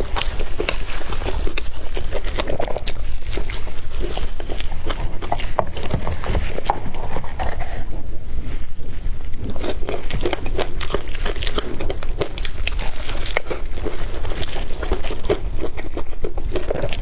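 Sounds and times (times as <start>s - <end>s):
chewing and biting food: 0.0s - 17.0s.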